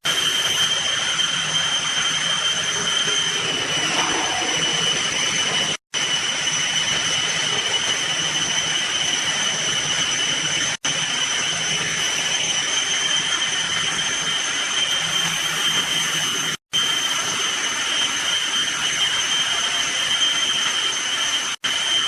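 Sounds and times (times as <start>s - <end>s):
washing machine hiss and whine: 0.0s - 22.0s.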